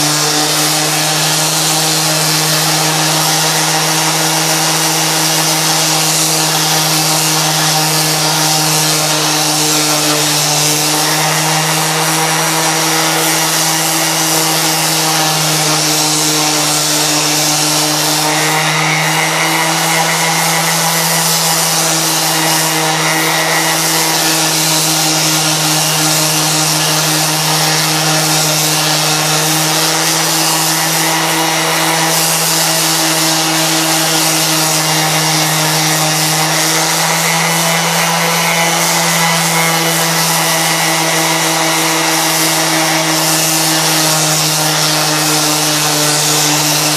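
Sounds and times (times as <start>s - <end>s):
orbital sander sanding wood: 0.0s - 46.9s.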